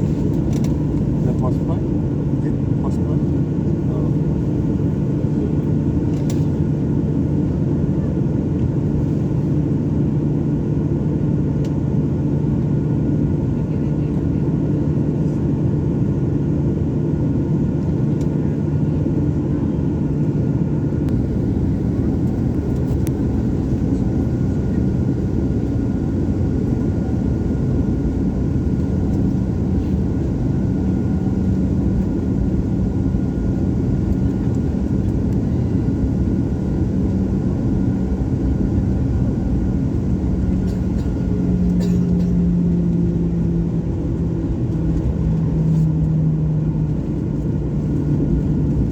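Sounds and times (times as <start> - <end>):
jet engines running: 0.0 - 13.5, 15.5 - 48.9.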